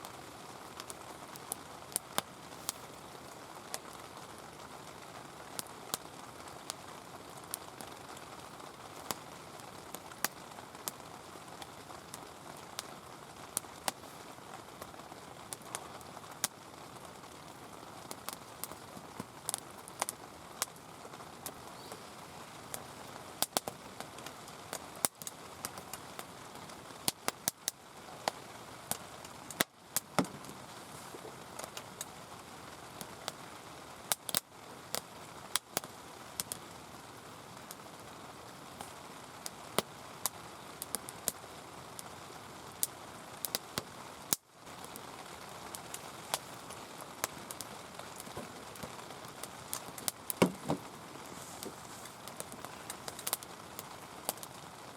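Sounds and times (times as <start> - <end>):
sharp irregular crackles: 0.0 - 33.4, 42.7 - 54.9
heavy rain falling: 0.0 - 54.9.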